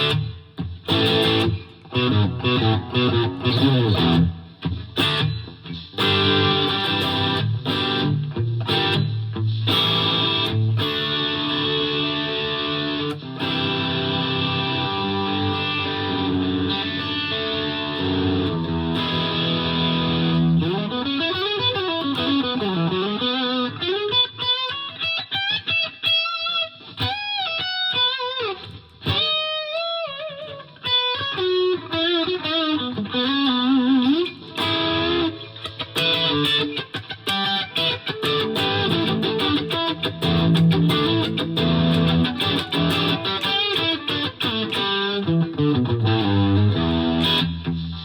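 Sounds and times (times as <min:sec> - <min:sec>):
overdriven electric guitar: 0:00.0 - 0:48.0.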